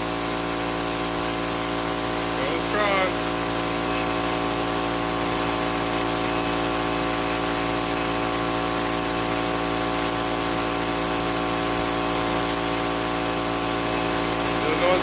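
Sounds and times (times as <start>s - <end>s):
air compressor humming: 0.0s - 15.0s
compressor hiss: 0.0s - 15.0s.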